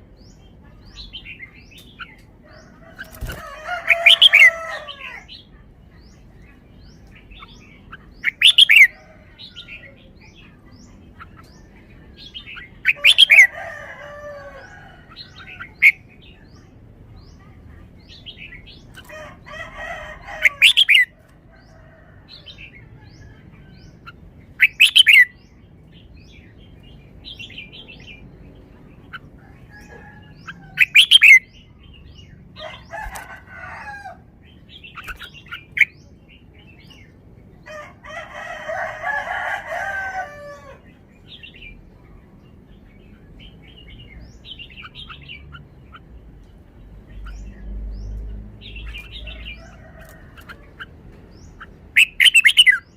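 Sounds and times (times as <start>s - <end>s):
bird singing warbled phrases: 0.0s - 52.9s.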